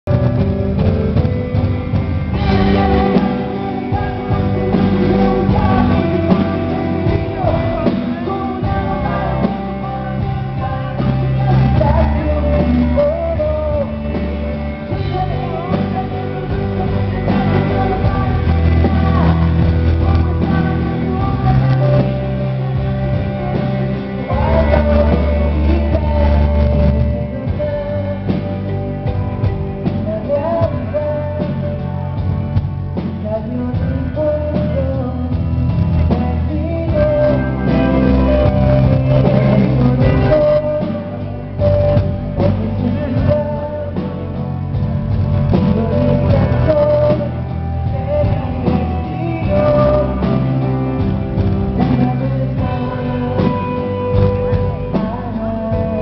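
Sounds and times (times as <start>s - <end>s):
acoustic guitar: 0.0s - 56.0s
drums: 0.0s - 56.0s
woman singing: 2.2s - 28.8s, 29.9s - 32.2s, 33.2s - 44.5s, 45.5s - 56.0s.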